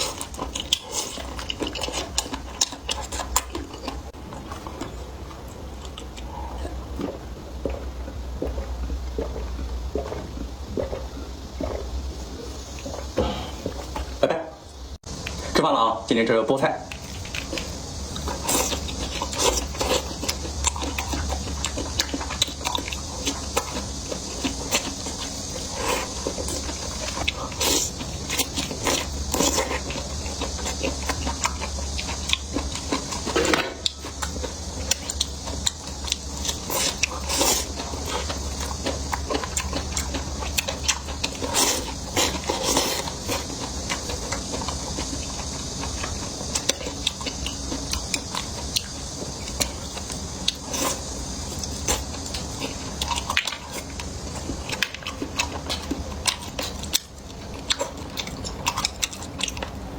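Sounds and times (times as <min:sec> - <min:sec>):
person chewing and biting: 0:00.0 - 0:14.2, 0:16.9 - 0:59.9
steady low hum: 0:00.0 - 0:59.9.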